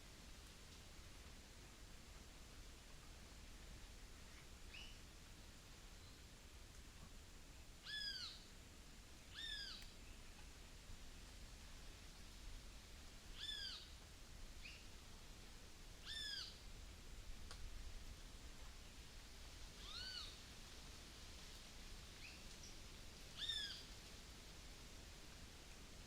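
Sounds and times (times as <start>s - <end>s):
countryside background hiss: 0.0s - 26.0s.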